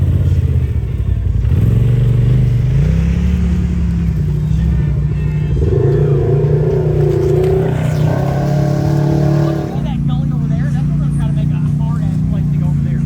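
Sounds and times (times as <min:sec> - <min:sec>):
off-road vehicle engines revving: 0:00.0 - 0:13.0.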